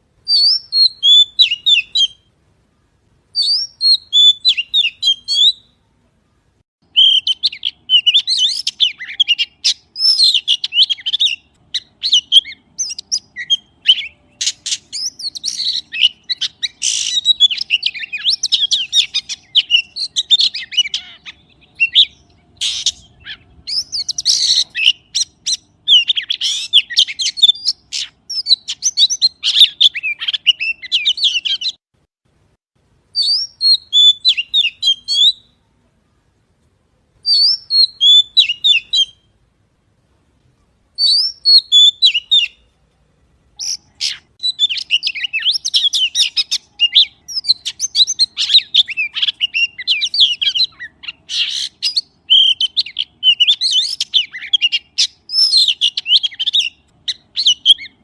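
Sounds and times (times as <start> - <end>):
magpie chirps and whistles: 0.2 - 2.3, 3.4 - 5.7, 6.8 - 31.8, 33.2 - 35.5, 37.2 - 39.3, 41.0 - 42.7, 43.6 - 58.0.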